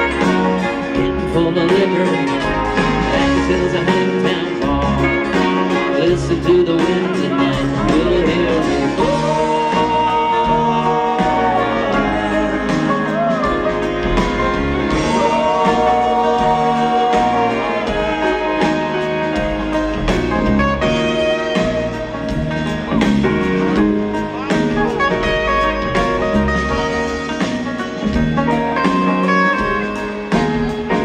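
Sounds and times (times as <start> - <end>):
bending lead melody: 0.0 - 31.0
live band playing instrumental: 0.0 - 31.0.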